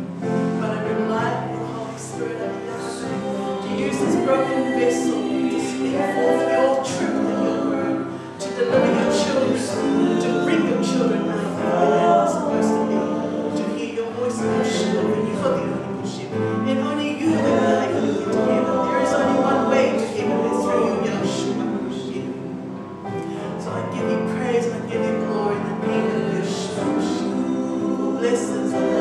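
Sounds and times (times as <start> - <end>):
voices singing slow worship song: 0.0 - 29.0.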